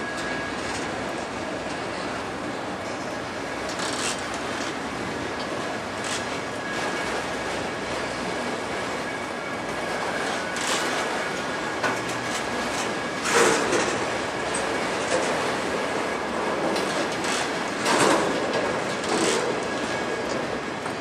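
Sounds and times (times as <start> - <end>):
steel wheels rumbling on rail: 0.0 - 21.0.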